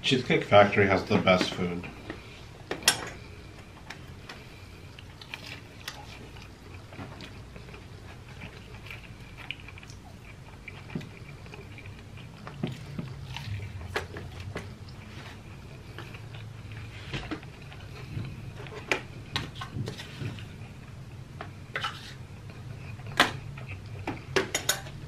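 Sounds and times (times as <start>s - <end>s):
person chewing: 3.2s - 24.4s.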